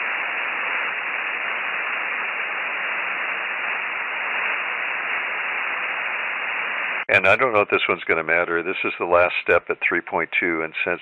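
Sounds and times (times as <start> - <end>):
radio receiver hiss: 0.0 - 11.0.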